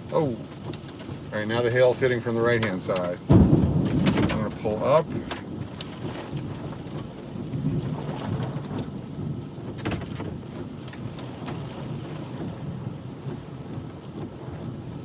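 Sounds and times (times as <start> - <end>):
hail and rain on car: 0.0 - 15.0.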